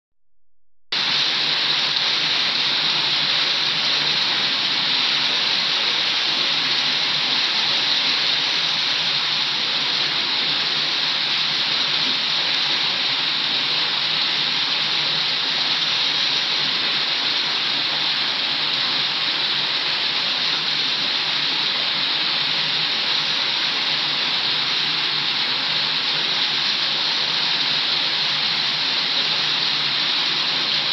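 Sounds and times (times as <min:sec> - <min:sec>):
fountain water splashing into basin: 0:01.0 - 0:30.9.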